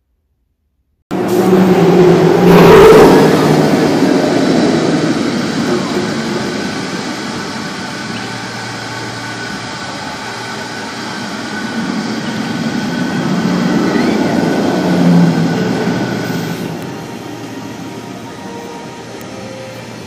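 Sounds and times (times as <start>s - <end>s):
roller coaster rumbling on track: 1.1s - 20.0s.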